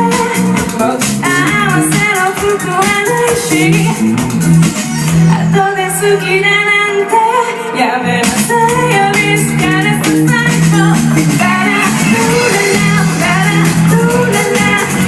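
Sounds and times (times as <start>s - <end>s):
woman singing: 0.0s - 4.0s, 5.3s - 15.0s
live band music: 0.0s - 15.0s.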